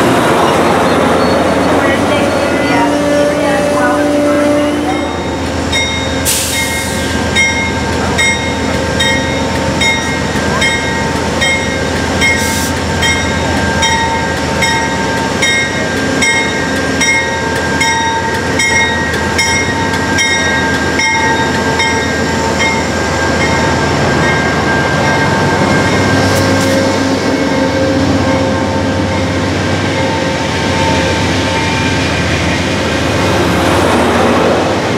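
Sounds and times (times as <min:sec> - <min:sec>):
locomotive engine running: 0:00.0 - 0:34.9
locomotive bell ringing: 0:00.2 - 0:33.0.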